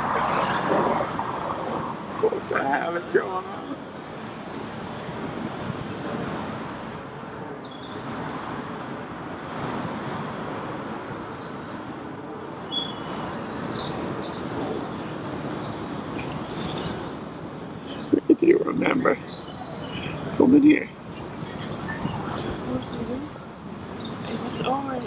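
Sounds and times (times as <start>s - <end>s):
outdoor ambience hiss: 0.0s - 25.0s
small birds chirping: 2.1s - 6.6s, 7.6s - 8.3s, 9.5s - 25.0s.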